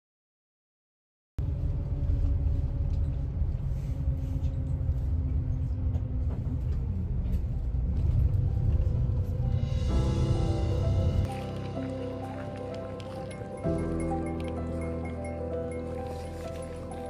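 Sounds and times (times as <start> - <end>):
bus engine rumble: 1.4 - 17.0
road noise: 1.4 - 17.0.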